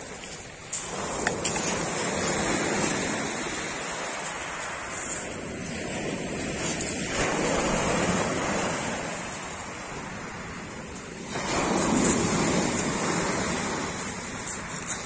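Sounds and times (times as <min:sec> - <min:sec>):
surf washing up a pebble beach: 0:00.0 - 0:15.0.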